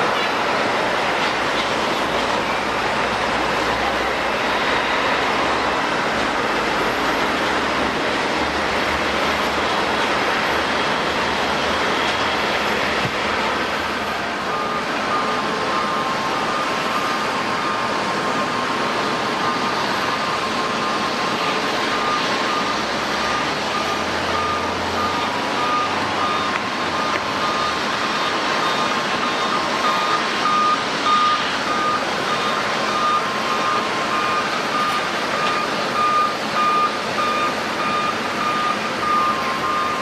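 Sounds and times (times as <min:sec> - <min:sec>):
jet engines rushing: 0:00.0 - 0:40.0.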